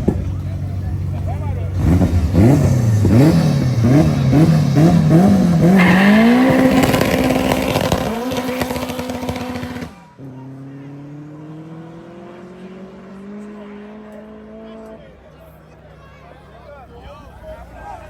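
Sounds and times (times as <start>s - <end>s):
faint engine rising in pitch: 0.0s - 18.0s
race car engine revving: 0.0s - 18.0s.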